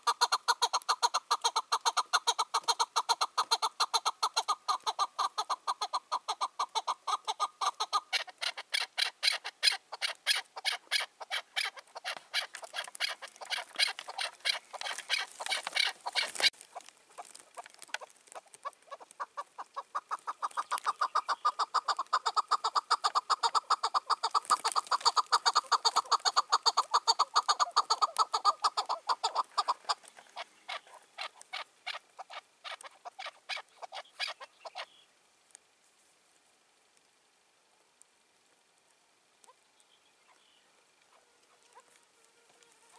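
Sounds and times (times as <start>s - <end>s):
partridge clucking calls: 0.0s - 35.1s, 39.2s - 42.0s.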